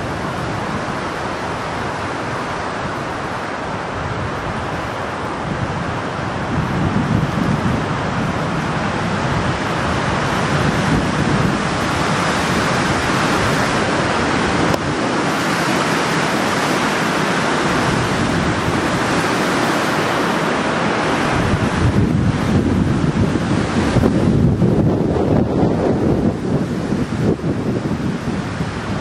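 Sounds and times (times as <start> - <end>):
gusty wind buffeting microphone: 0.0 - 29.0.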